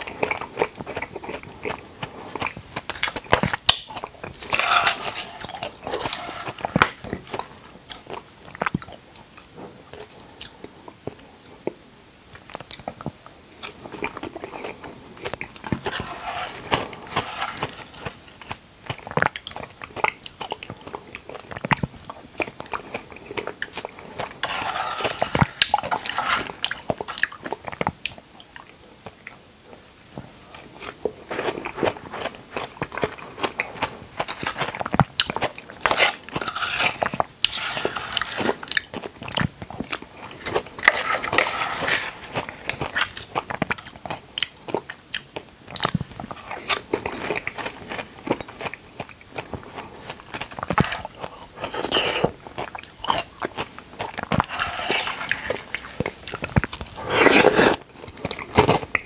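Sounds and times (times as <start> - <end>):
wet chewing of fruit: 0.0 - 11.8, 12.4 - 59.0.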